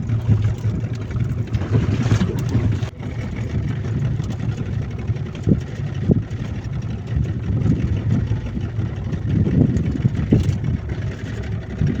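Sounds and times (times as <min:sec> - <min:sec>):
outboard motor rumbling: 0:00.0 - 0:12.0.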